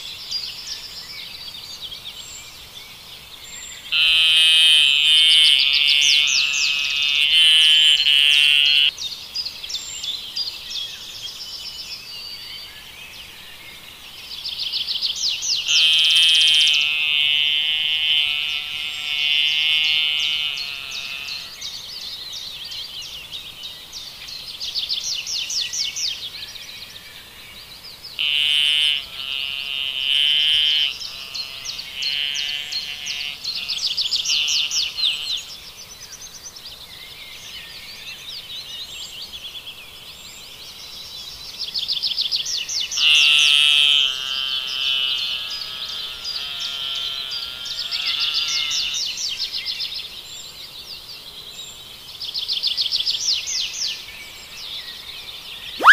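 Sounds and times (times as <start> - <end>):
songbirds trilling: 0.0 - 55.9.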